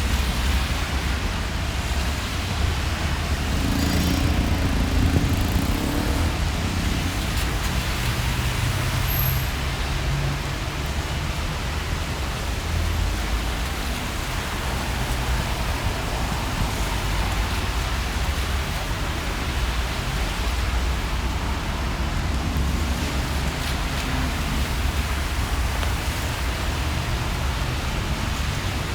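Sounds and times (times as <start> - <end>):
rain on a street: 0.0 - 28.9
road traffic rumble: 0.0 - 28.9.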